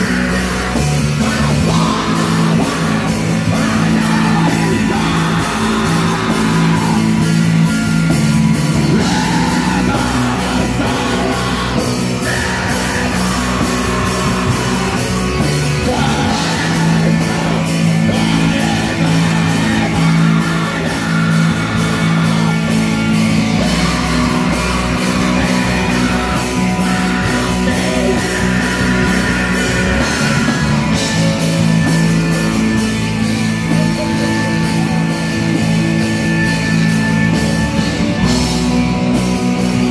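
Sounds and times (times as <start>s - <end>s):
distorted electric guitars: 0.0s - 39.9s.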